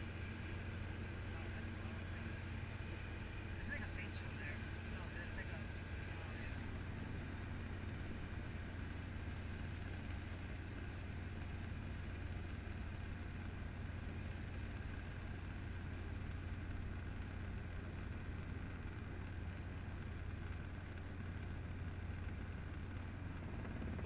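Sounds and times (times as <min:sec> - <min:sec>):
helicopter engine and rotor drone: 0:00.0 - 0:24.0.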